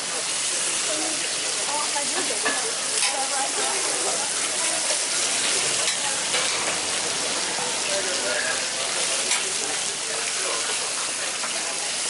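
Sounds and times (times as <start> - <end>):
faint voices: 0.0 - 12.0
meat sizzling on a griddle: 0.0 - 12.0.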